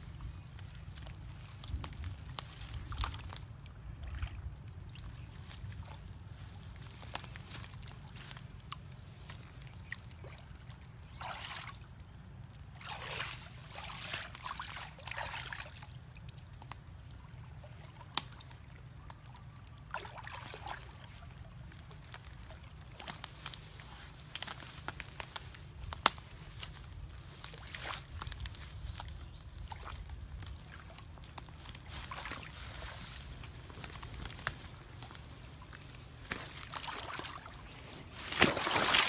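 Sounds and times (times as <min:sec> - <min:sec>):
water sloshing and splashing: 0:00.6 - 0:23.6, 0:29.0 - 0:39.0.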